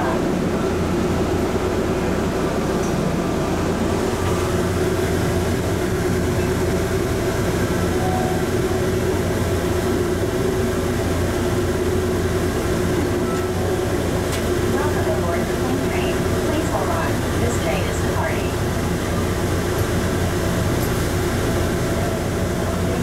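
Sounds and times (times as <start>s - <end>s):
train rumbling through tunnel: 0.0s - 23.0s.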